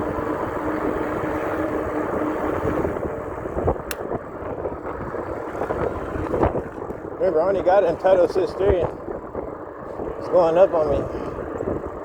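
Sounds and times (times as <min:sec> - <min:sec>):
passing traffic: 0:00.0 - 0:12.0
wind rumble on microphone: 0:00.0 - 0:12.0.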